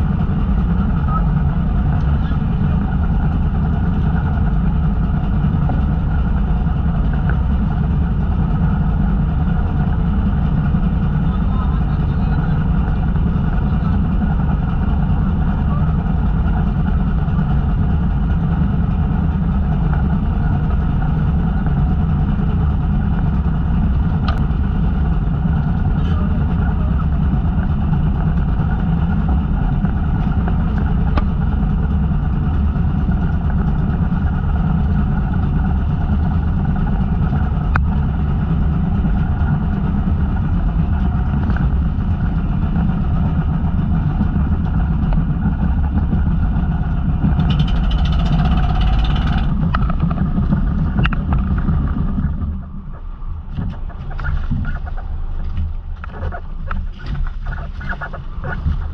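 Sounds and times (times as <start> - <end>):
boat engine running: 0.0 - 58.9.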